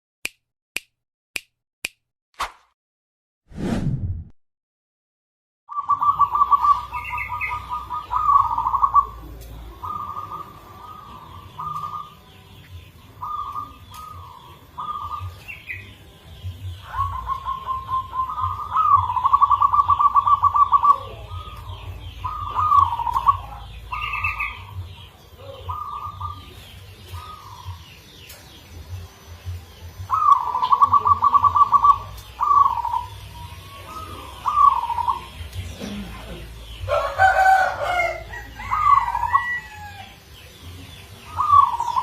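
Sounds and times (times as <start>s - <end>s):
dove cooing song: 5.7s - 28.0s, 30.0s - 42.0s.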